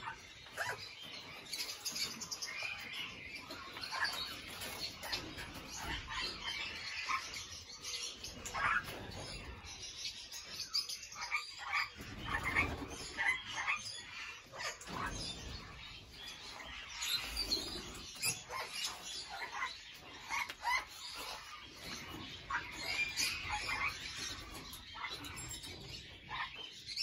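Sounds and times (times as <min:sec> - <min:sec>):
birds chirping and calling: 0:00.0 - 0:27.0.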